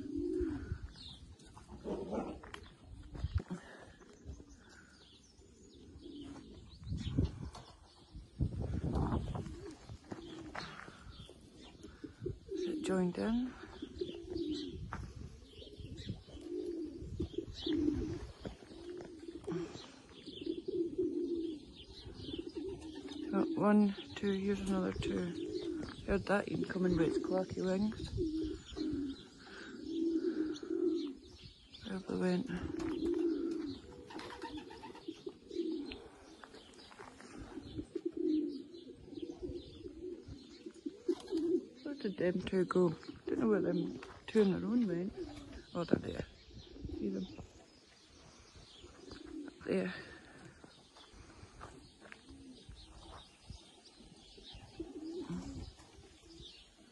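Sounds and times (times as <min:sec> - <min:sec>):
pigeons cooing: 0:00.0 - 0:56.9.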